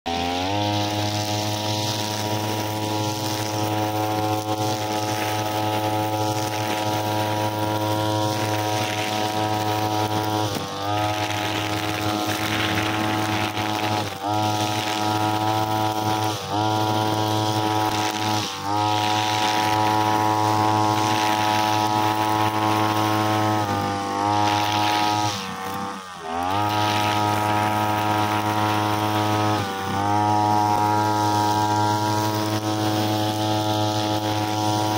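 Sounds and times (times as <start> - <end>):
brushcutter engine buzzing: 0.1 - 34.9
cutter hissing in grass: 0.1 - 34.9.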